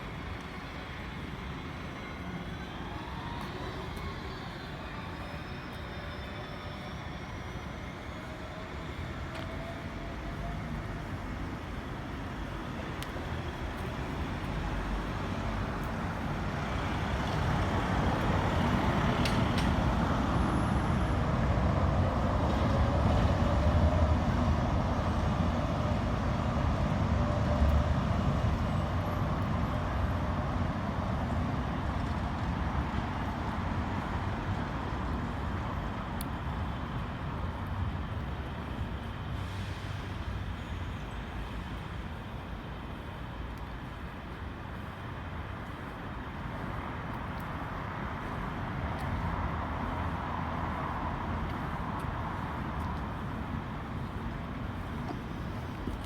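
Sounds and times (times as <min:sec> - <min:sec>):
city street traffic: 0:00.0 - 0:56.0.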